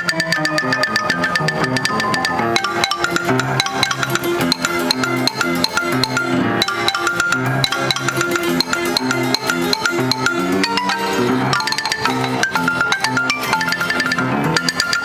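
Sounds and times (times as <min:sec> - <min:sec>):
player piano playing: 0:00.0 - 0:15.0.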